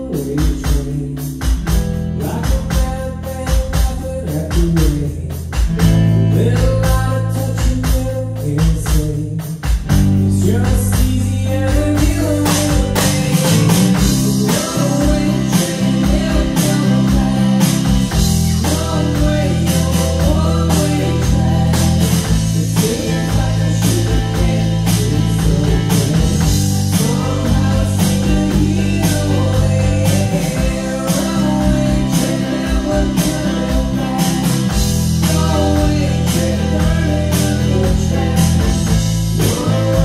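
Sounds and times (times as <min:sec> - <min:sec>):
bass notes: 0:00.0 - 0:40.0
drums with cymbals: 0:00.0 - 0:40.0
electric guitars: 0:00.0 - 0:40.0
person singing: 0:02.2 - 0:40.0.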